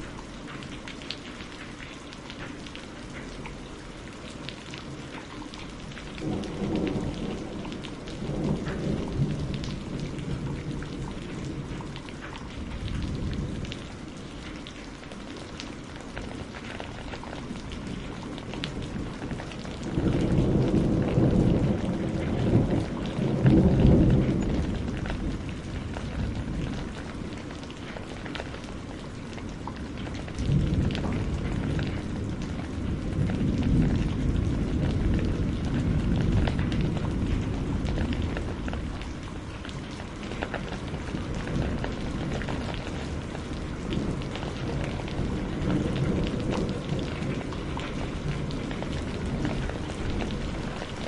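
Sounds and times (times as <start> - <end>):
rain patter: 0.0 - 51.0
rolling thunder: 5.9 - 14.0, 16.3 - 51.0.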